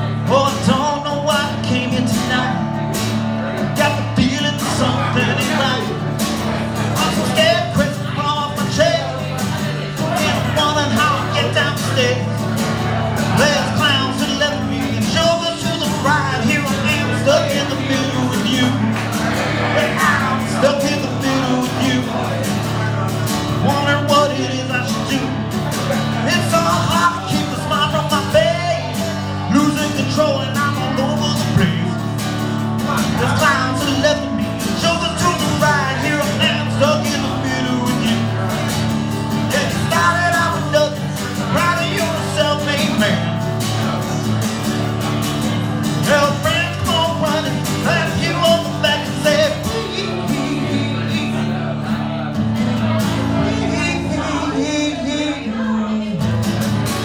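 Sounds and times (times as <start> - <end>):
man singing: 0.0 - 57.0
strummed acoustic guitar: 0.0 - 57.0.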